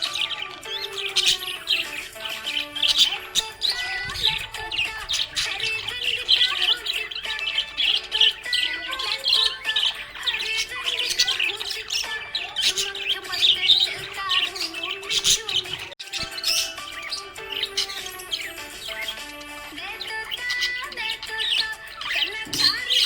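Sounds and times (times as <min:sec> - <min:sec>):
budgerigars chirping and warbling: 0:00.0 - 0:23.0.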